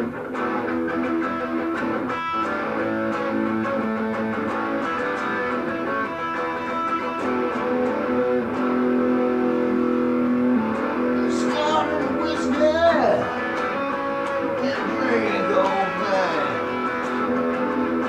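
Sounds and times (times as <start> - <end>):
guitar music: 0.0 - 18.0.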